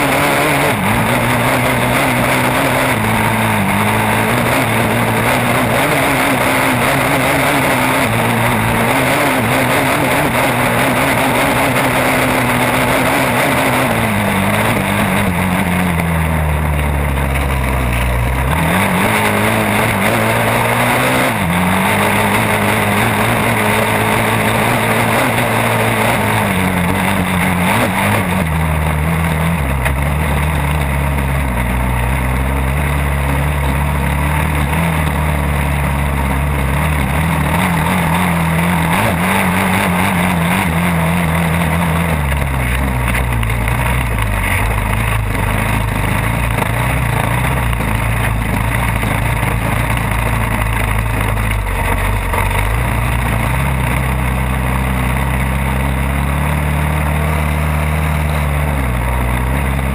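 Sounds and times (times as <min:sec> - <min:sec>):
atv engine running hard: 0:00.0 - 0:59.9
wind and ground noise: 0:00.0 - 0:59.9.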